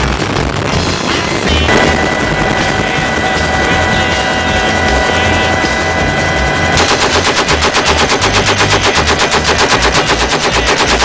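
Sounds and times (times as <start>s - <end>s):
helicopter engine and rotor hum: 0.8s - 11.0s
machine gun firing burst: 1.7s - 11.0s.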